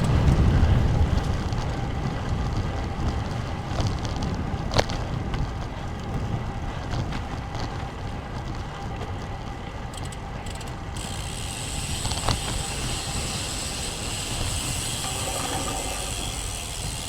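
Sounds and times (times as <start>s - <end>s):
bike tyre and road noise: 0.0s - 17.0s
wind rumbling on microphone: 0.0s - 17.0s.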